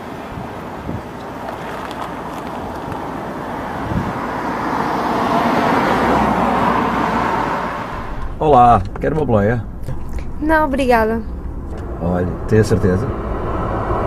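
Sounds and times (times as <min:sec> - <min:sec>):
car engine approaching: 0:00.0 - 0:14.0
road noise: 0:00.0 - 0:14.0.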